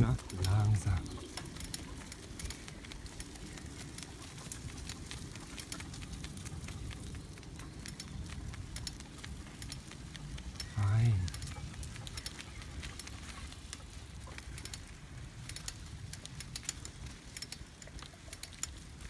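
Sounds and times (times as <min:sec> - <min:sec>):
bicycle rolling on forest track: 0:00.0 - 0:19.0.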